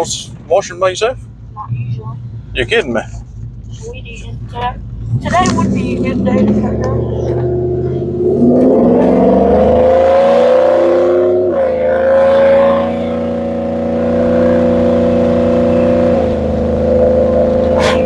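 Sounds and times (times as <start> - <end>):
truck engine accelerating: 0.0 - 18.0.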